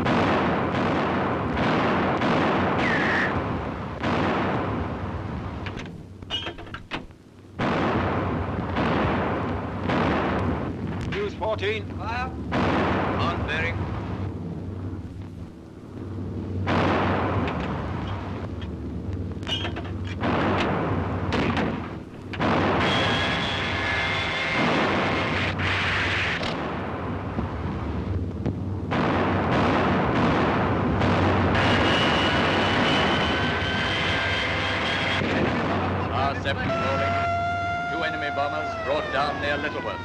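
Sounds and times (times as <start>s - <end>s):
anti-aircraft guns firing: 0.0s - 27.6s, 28.4s - 40.0s
low hum of old film sound: 0.0s - 40.0s.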